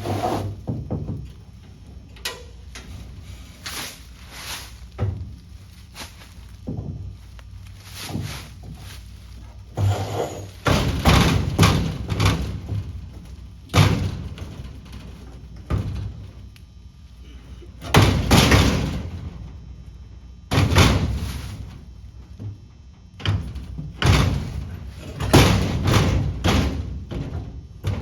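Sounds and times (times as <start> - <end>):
heavy metal parts thumping: 0.0 - 16.5, 17.2 - 28.0.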